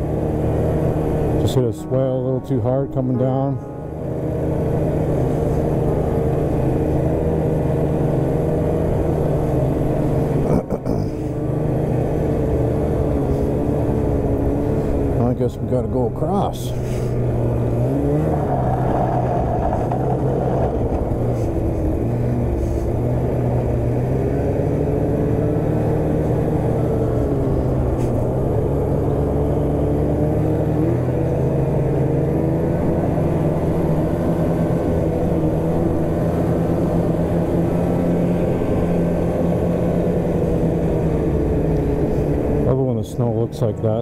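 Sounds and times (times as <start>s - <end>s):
snowmobile engine running: 0.0s - 44.0s.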